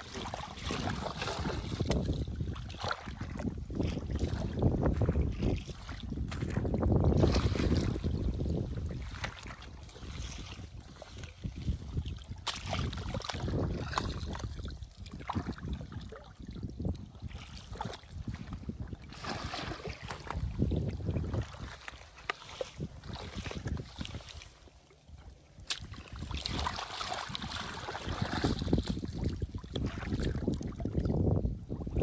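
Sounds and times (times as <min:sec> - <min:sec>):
water sloshing and splashing: 0:00.0 - 0:32.0
wind noise on microphone: 0:00.0 - 0:32.0.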